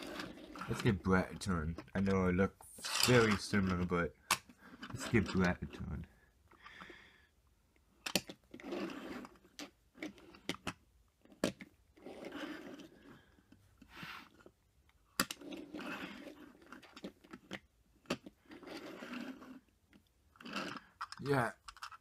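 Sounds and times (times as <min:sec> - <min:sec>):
toy car wheels rolling on wood: 0:00.0 - 0:06.1, 0:08.0 - 0:14.6, 0:15.2 - 0:22.0.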